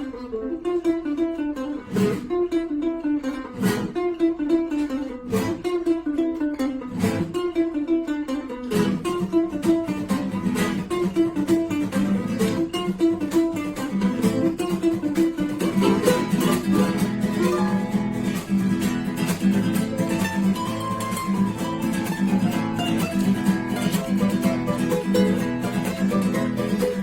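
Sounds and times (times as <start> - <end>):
fast acoustic guitar playing: 0.0 - 27.0.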